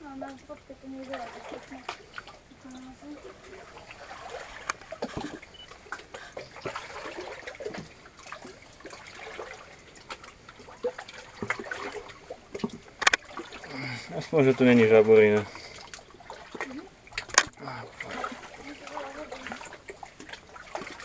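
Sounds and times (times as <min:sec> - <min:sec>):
water trickling: 0:00.0 - 0:21.0
footsteps splashing in water: 0:01.0 - 0:21.0.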